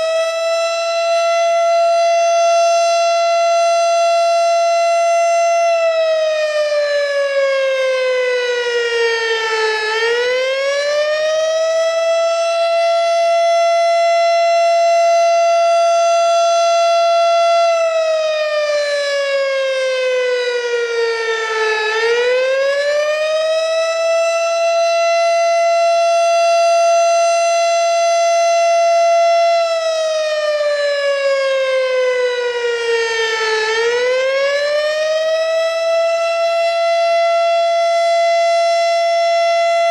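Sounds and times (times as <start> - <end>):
fire siren wailing: 0.0 - 39.9.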